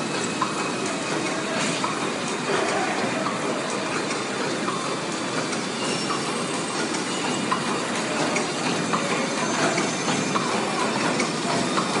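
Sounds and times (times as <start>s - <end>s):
machine clattering: 0.0s - 12.0s.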